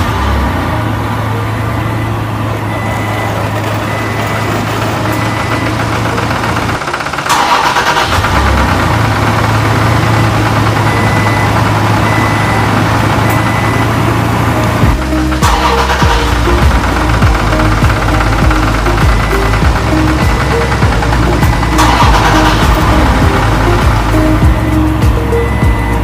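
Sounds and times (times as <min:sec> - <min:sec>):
tractor engine idling: 0:00.0 - 0:26.0.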